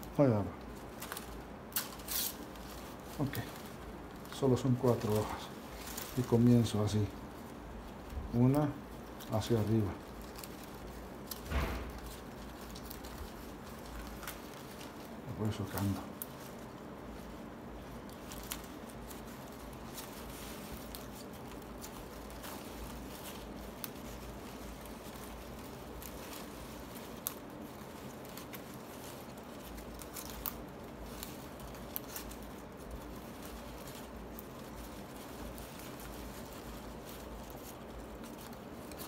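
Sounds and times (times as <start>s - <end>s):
palm-leaf strips rustling: 0.0s - 39.0s.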